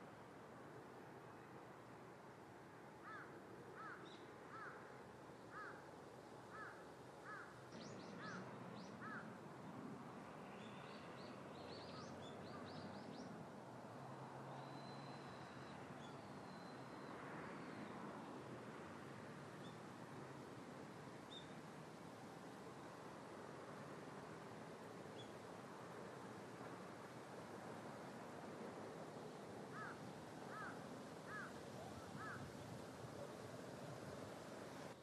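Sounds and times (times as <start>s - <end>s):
faint background hiss: 0.0s - 35.0s.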